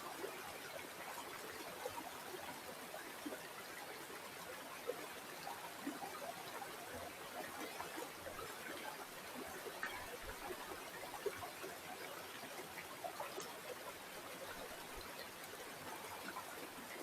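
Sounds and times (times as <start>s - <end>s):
river water flowing: 0.2s - 17.0s.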